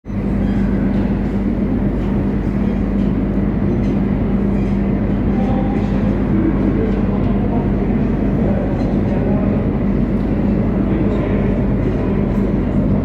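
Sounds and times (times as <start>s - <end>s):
metro train running: 0.1s - 13.0s.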